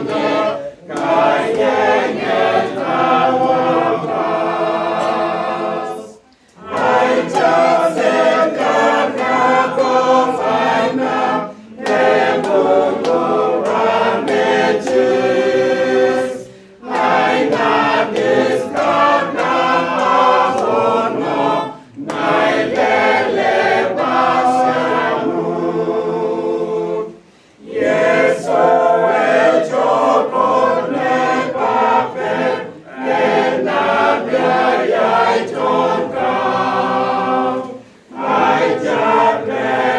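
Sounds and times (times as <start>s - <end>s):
choir singing unaccompanied: 0.0s - 39.9s.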